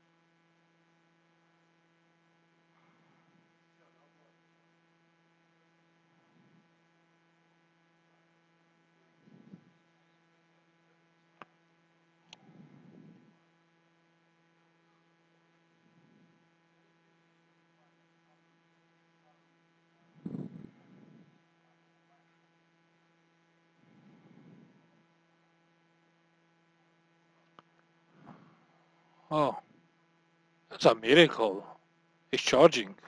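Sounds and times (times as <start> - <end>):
faint electrical hum: 0.0 - 33.0.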